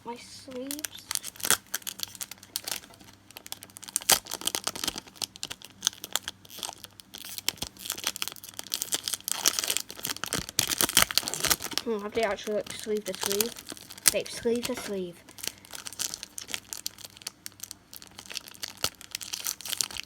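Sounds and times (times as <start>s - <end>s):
plastic wrapping crinkling and tearing: 0.5s - 20.0s.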